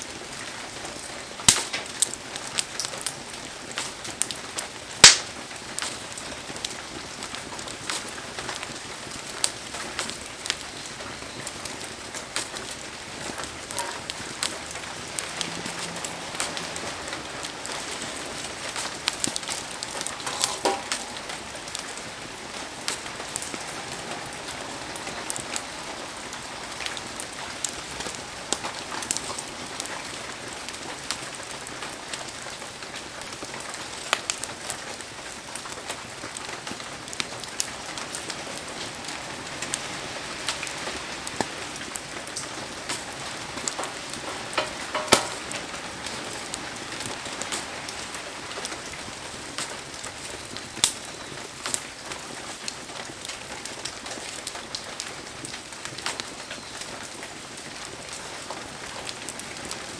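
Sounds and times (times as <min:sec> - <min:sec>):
campfire popping and crackling: 0:00.0 - 0:59.9
heavy rain hissing: 0:00.0 - 0:59.9.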